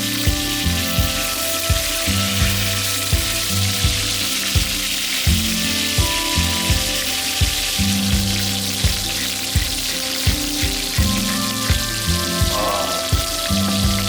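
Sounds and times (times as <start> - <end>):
background music with beat: 0.0 - 14.0
steak sizzling: 0.0 - 14.0.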